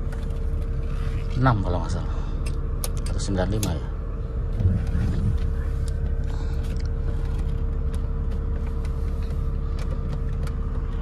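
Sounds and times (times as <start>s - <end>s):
car engine idling low rumble: 0.0s - 11.0s.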